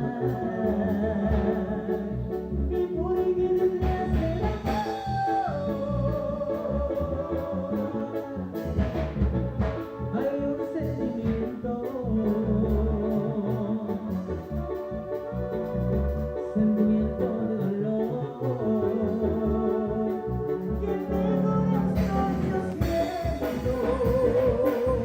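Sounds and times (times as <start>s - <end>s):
band playing a song: 0.0s - 25.0s.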